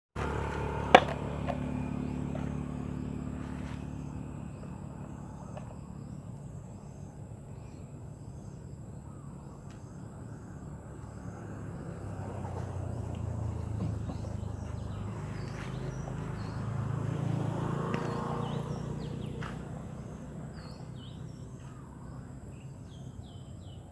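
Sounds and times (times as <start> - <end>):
steady low hum: 0.2 - 23.9.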